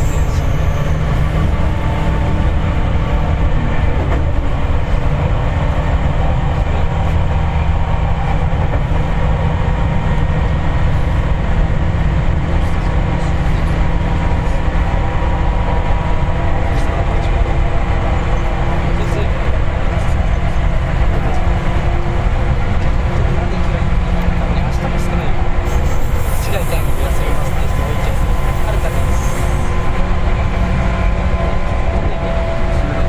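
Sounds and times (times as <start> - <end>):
train running rumble: 0.0 - 33.0.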